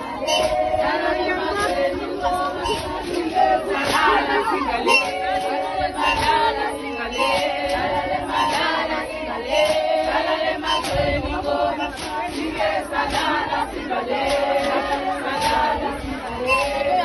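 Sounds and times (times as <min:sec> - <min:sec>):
crowd noise: 0:00.0 - 0:17.0
women singing in unison: 0:00.0 - 0:17.0.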